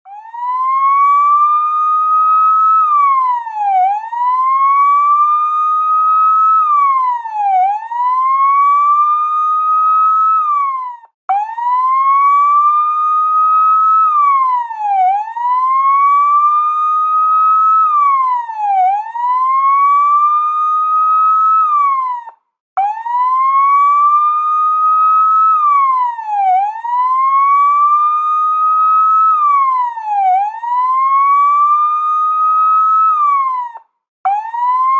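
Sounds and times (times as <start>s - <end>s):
police siren wailing: 0.0s - 34.9s.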